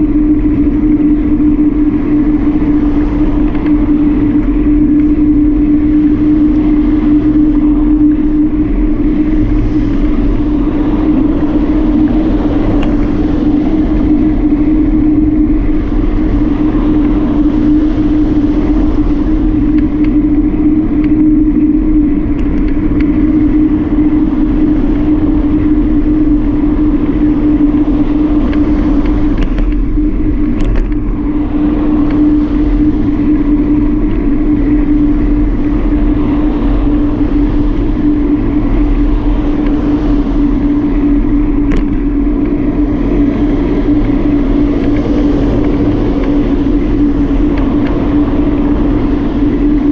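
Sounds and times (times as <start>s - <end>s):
humming drone: 0.0s - 49.9s
road rumble: 0.0s - 49.9s
wind: 0.0s - 49.9s.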